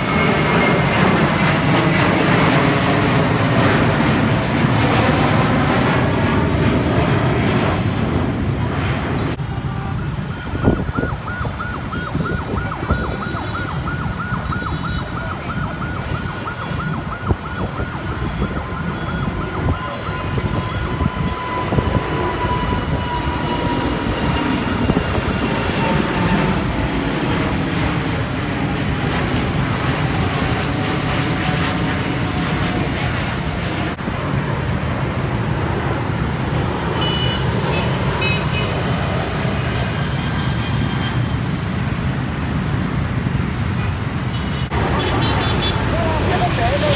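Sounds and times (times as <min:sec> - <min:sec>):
jet airliner engines roaring: 0:00.0 - 0:46.9
traffic din: 0:00.0 - 0:46.9.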